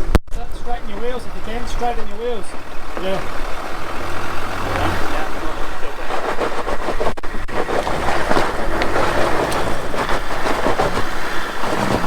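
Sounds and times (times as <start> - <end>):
engine running steadily: 0.0 - 12.0
rough crackling noise: 0.0 - 12.0.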